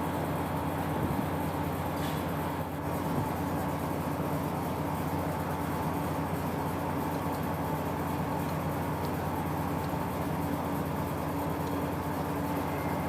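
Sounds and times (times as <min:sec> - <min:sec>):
machine droning hum: 0:00.0 - 0:13.0.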